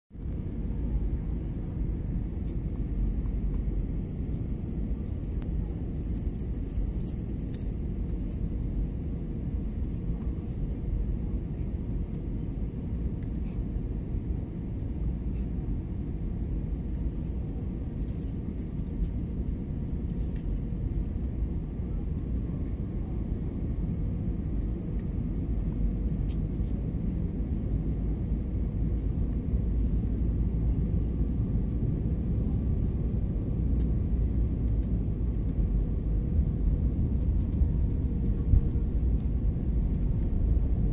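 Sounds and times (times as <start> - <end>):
airliner cabin rumble: 0.1 - 40.9
faint hum: 0.1 - 40.9.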